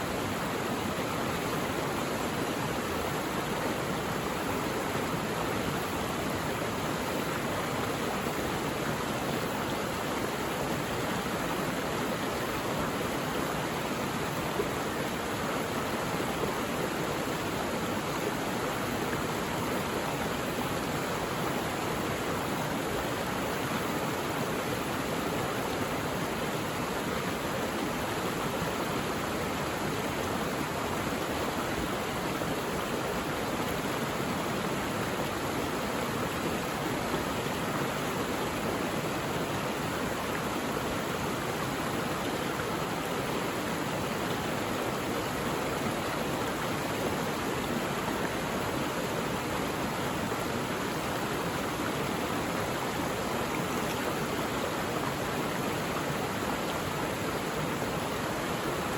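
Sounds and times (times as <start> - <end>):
stream rushing: 0.0 - 58.9.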